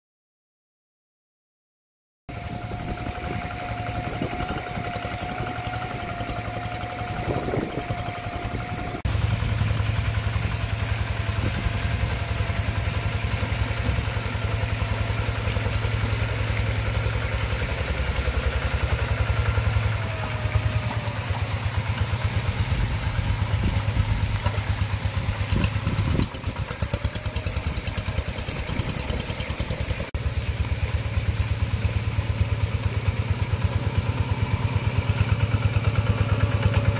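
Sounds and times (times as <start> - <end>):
diesel tractor engine chugging: 2.3 - 36.9.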